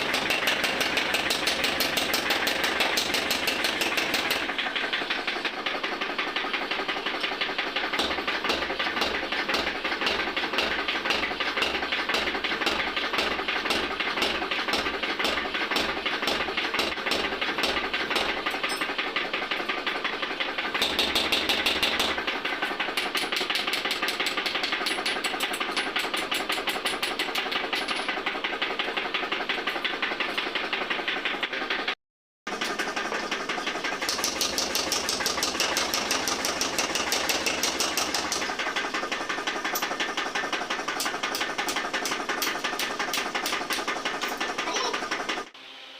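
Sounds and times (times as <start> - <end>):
machine hammering on metal: 0.0 - 45.5.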